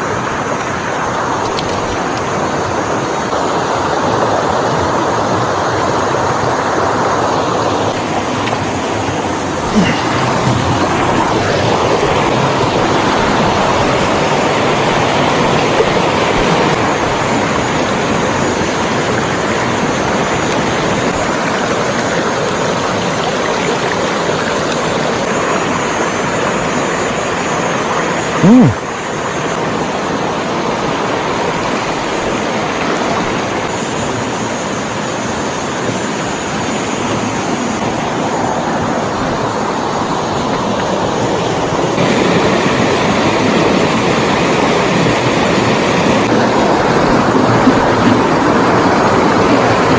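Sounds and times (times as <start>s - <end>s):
stream rushing over stones: 0.0s - 49.9s.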